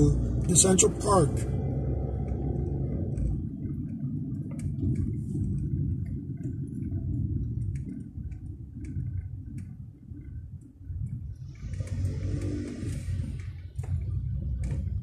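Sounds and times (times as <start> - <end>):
car driving slowly: 0.0 - 15.0
light ticks and clicks: 0.0 - 15.0.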